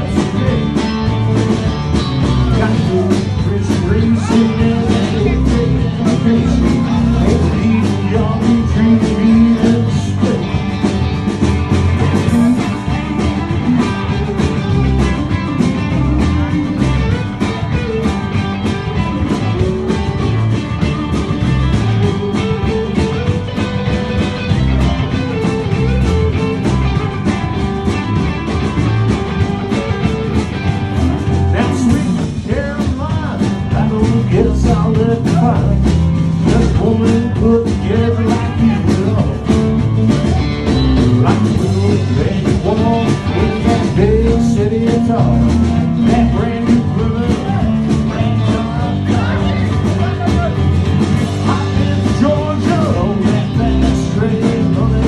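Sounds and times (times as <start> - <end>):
country rock band playing: 0.0 - 55.0
drum beat: 0.0 - 55.0
electric guitar: 0.0 - 55.0.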